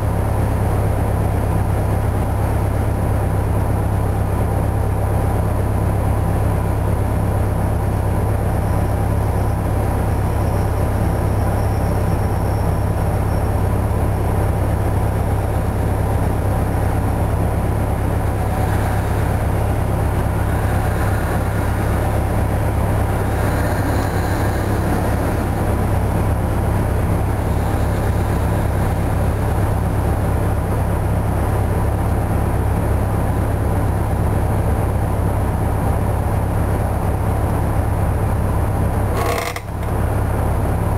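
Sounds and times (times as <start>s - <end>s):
diesel bus engine idling: 0.0s - 40.9s.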